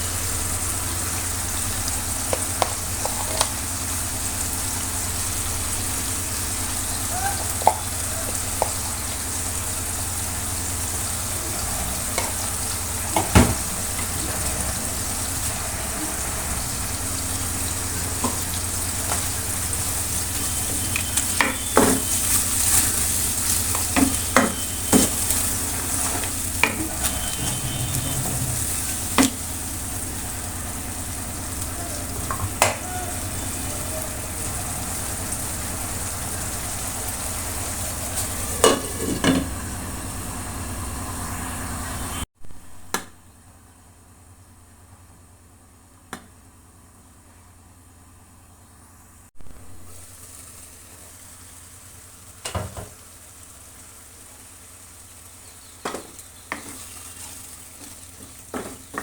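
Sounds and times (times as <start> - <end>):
food sizzling in oil: 0.0 - 42.3, 49.7 - 59.0.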